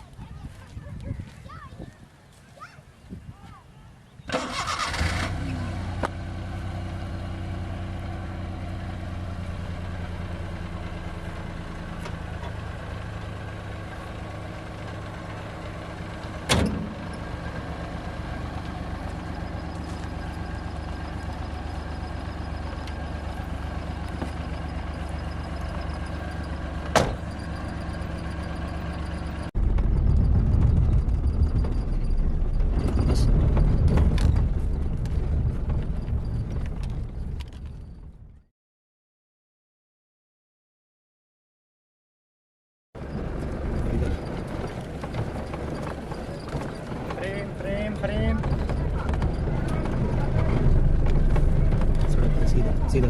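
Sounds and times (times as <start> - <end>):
car engine idling: 5.7 - 38.4, 43.0 - 53.0.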